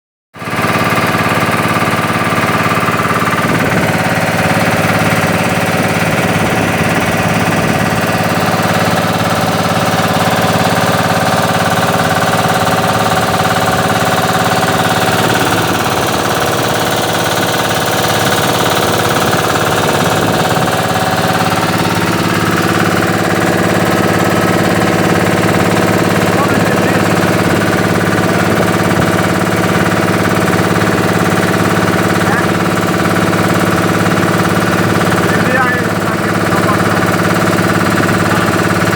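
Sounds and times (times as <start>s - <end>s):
boat engine running: 0.4s - 38.9s.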